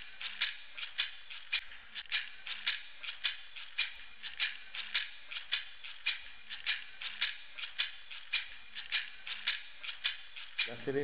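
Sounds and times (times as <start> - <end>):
rattle shaken rhythmically: 0.0 - 11.0.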